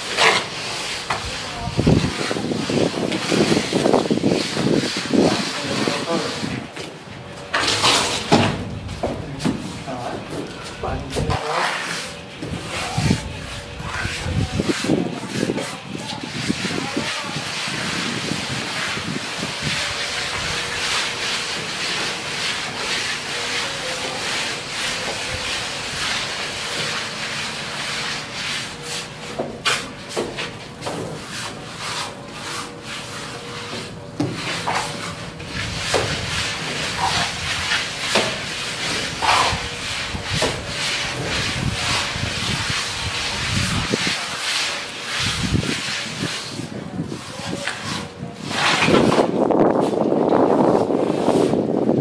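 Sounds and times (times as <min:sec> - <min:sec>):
trowels scraping render on brick: 0:00.0 - 0:06.7, 0:07.4 - 0:08.6, 0:09.4 - 0:51.8.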